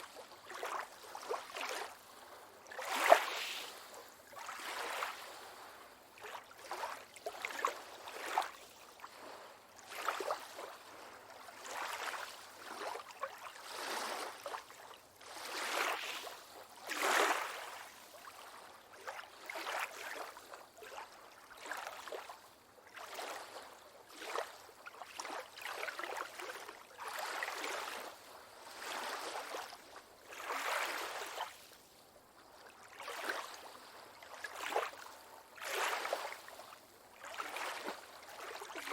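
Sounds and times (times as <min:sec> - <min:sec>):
small waves lapping: 0:00.0 - 0:38.9.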